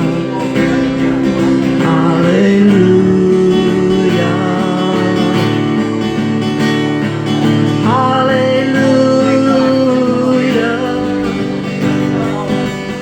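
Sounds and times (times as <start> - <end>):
gospel worship singing: 0.0 - 6.8, 7.5 - 13.0
guitar accompaniment: 0.0 - 13.0.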